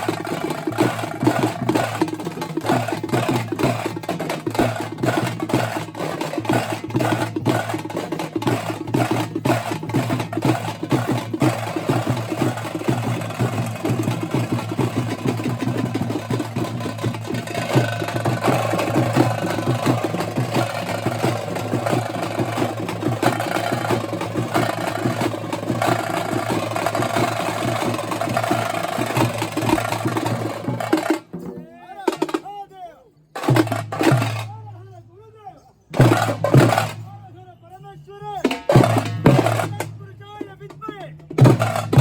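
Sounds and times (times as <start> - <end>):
frame drums beaten with sticks: 0.0 - 32.6, 33.4 - 34.7, 35.9 - 37.3, 38.4 - 42.0.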